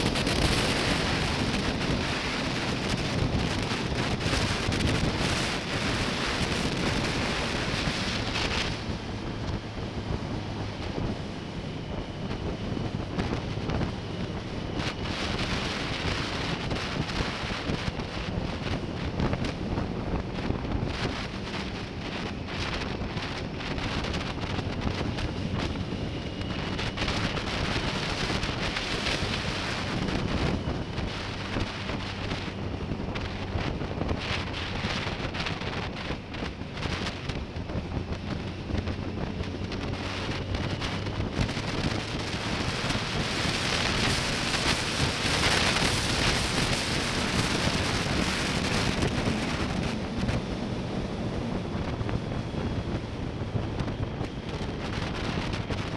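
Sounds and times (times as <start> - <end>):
motorcycle engine running: 0.0 - 55.9
wind buffeting microphone: 0.0 - 55.9.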